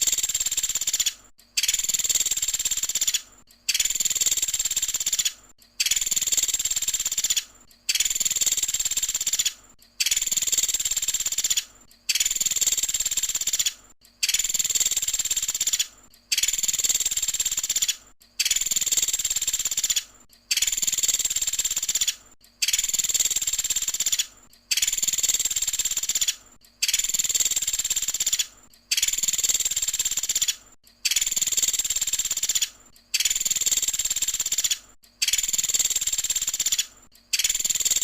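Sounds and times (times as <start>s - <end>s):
woodpecker rattling call: 0.0s - 38.0s.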